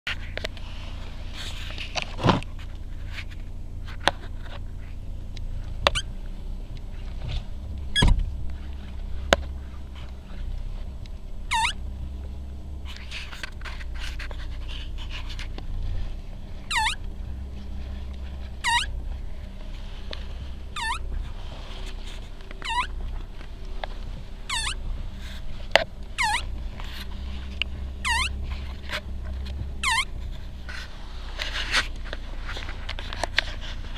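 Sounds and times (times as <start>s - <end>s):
rubber boot squeaking: 0.1s - 33.9s
steady low hum: 0.1s - 33.9s.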